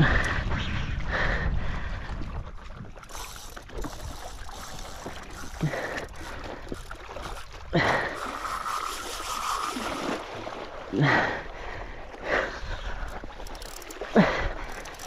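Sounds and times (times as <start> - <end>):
water rushing and slapping on hull: 0.0 - 15.0.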